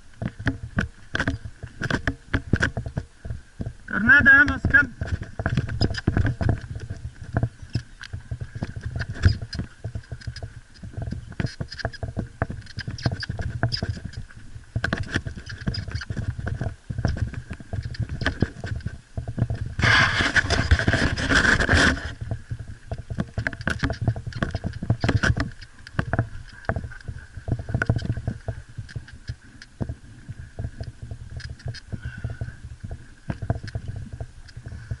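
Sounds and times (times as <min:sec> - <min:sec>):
bike rattling and knocking: 0:00.2 - 0:29.1.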